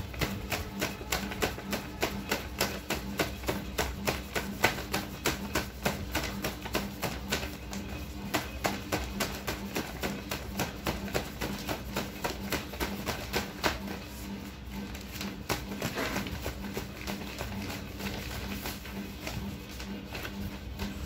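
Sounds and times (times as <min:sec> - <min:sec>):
paper envelopes flicking: 0:00.0 - 0:21.0
paper rustling: 0:00.0 - 0:21.0.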